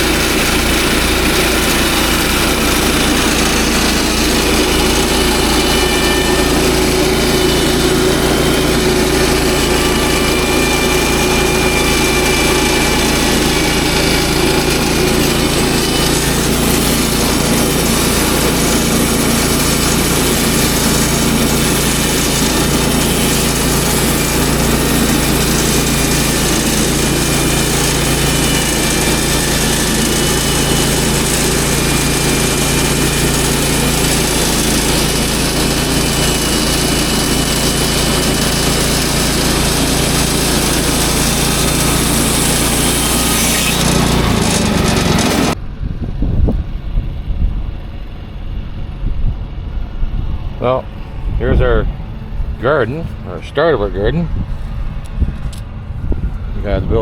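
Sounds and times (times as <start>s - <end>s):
small gas engine running: 0.0s - 57.0s.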